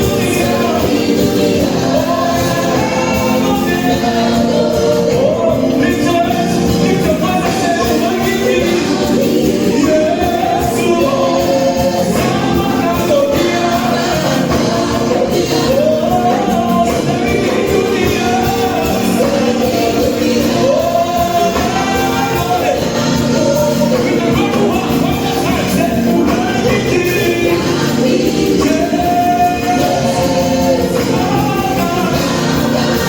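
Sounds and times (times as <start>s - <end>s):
dense musical accompaniment: 0.0s - 33.0s
gospel choir singing: 0.0s - 33.0s.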